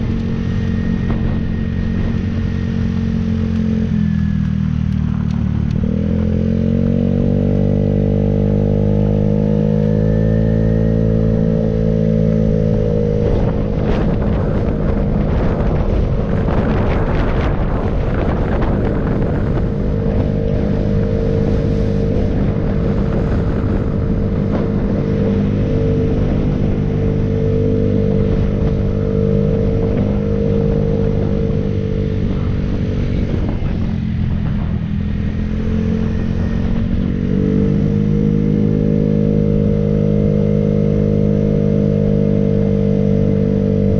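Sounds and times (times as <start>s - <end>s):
motorcycle engine running: 0.0s - 43.9s
road rumble: 0.0s - 43.9s
wind: 0.0s - 43.9s.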